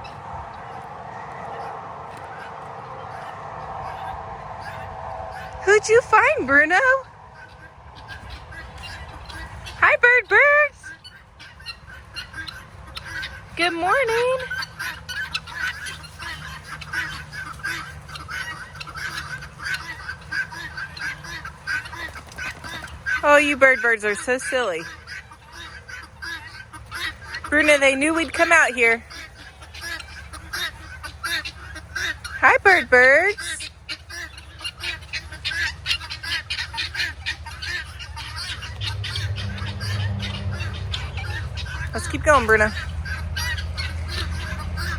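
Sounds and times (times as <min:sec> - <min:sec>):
low steady hum: 0:00.0 - 0:44.9
guinea fowl harsh rasping calls: 0:01.4 - 0:44.9.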